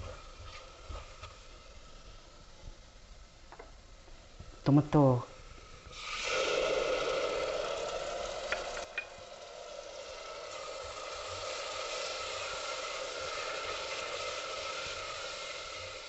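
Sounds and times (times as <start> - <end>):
tomato sizzling in hot oil: 0.0 - 4.4, 5.4 - 16.0.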